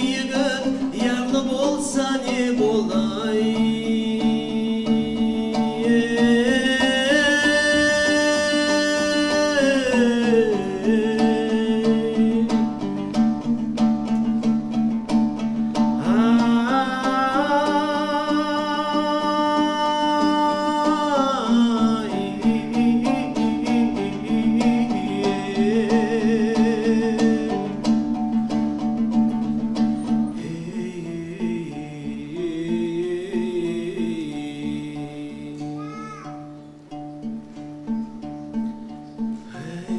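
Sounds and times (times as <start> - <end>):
man singing folk melody: 0.0 - 39.9
plucked lutes: 0.0 - 39.9.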